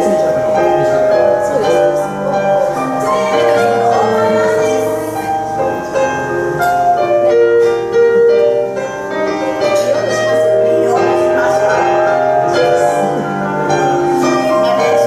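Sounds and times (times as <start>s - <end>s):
grand piano improvisation: 0.0s - 15.0s.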